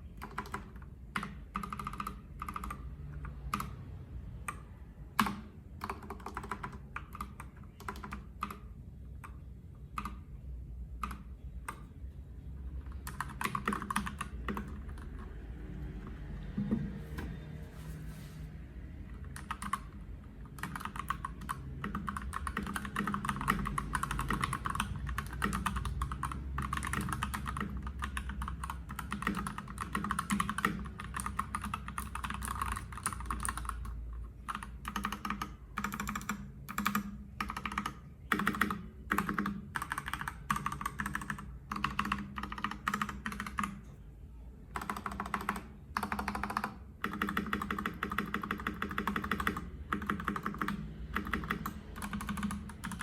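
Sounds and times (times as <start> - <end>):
mechanical keyboard typing: 0.0 - 10.4, 11.0 - 11.9, 12.7 - 17.3, 19.1 - 44.0, 44.7 - 53.0.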